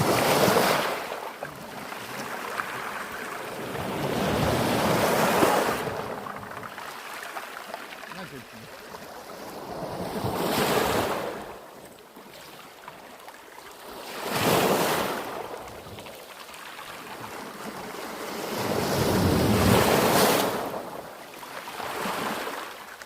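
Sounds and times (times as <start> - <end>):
waves washing in: 0.0 - 12.7, 13.7 - 23.0.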